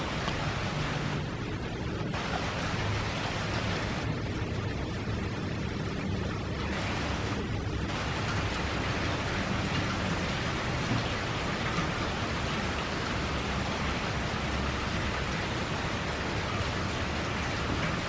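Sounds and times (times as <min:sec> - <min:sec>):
rain falling on grass: 0:00.0 - 0:18.0.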